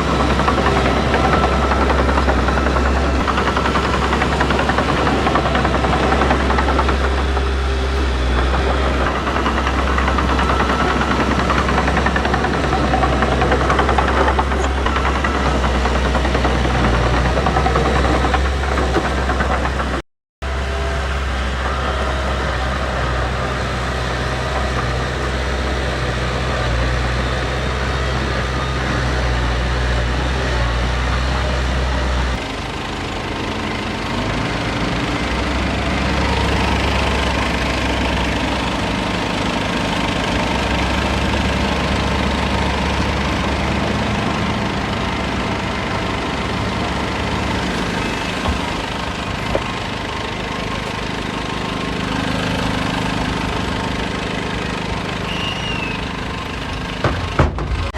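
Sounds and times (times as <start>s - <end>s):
heavy diesel engines droning: 0.0s - 57.9s.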